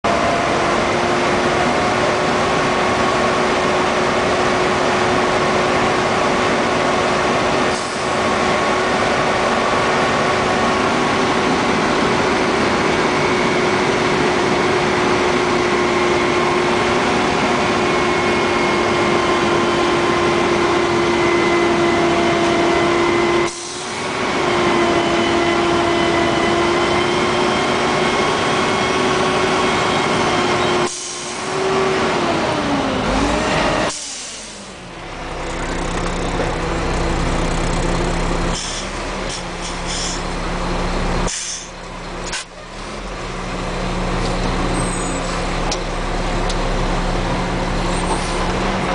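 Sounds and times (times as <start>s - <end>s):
garbage truck diesel engine: 0.0s - 48.9s.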